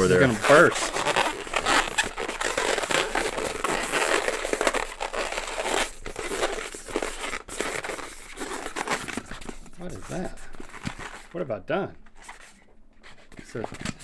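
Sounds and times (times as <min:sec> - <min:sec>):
balloons rubbing and crinkling: 0:00.0 - 0:14.0.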